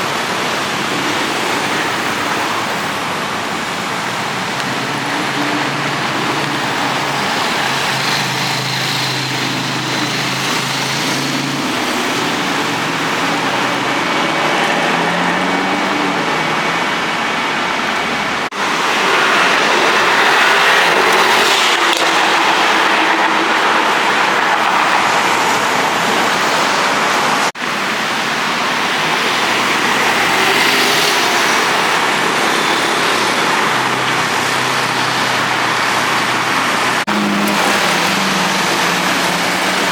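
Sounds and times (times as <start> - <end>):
cars passing: 0.0 - 39.9
road and tyre noise: 0.0 - 39.9.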